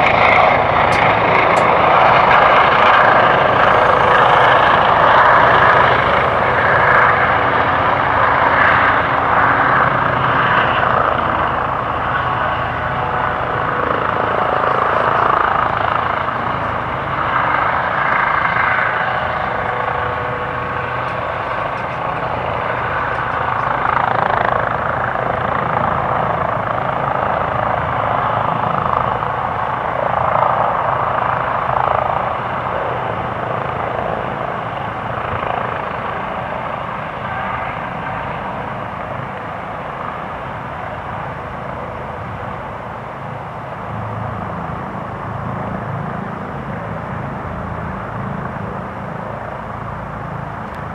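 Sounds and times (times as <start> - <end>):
helicopter hovering: 0.0 - 50.9.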